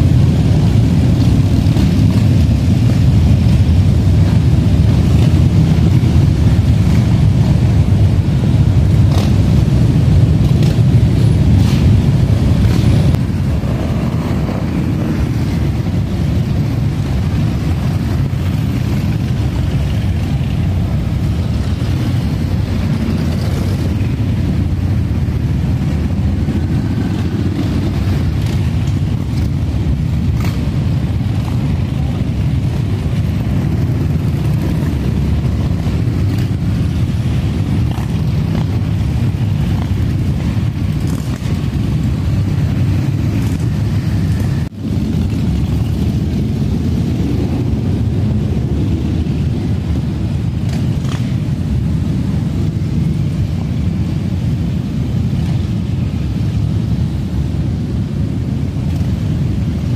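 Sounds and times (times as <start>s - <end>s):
motorcycle engines rumbling: 0.0s - 59.9s.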